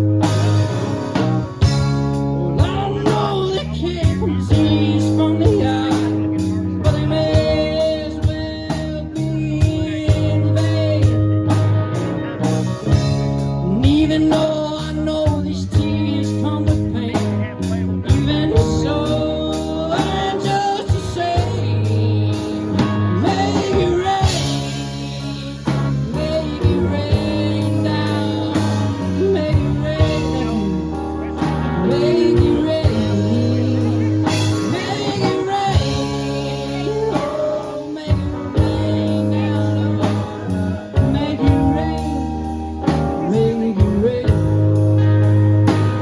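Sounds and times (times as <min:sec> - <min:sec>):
bass guitar: 0:00.0 - 0:46.0
drums: 0:00.0 - 0:46.0
electric guitar: 0:00.0 - 0:46.0
person singing: 0:00.0 - 0:46.0.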